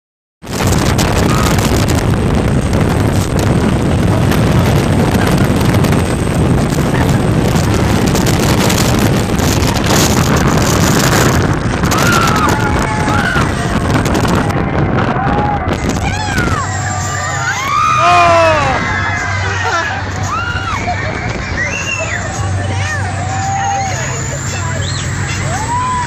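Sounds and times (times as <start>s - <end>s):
wind buffeting microphone: 0.4s - 23.5s
speedboat engine rushing: 0.4s - 26.0s.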